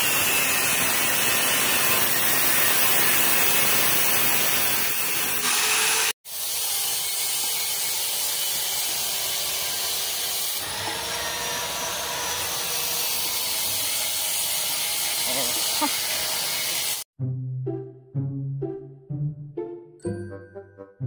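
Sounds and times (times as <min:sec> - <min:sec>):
angle grinder cutting metal: 0:00.0 - 0:17.1.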